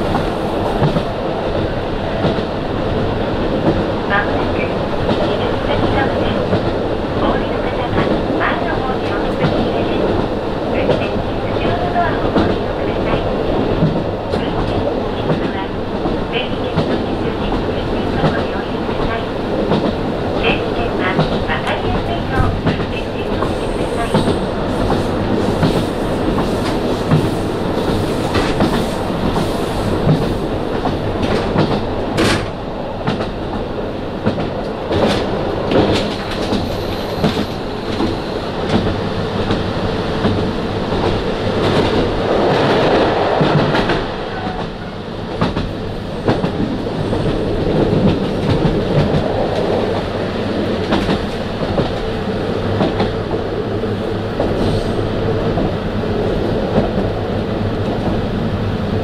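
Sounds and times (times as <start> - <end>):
train wheels and engine rumble: 0.0 - 59.0.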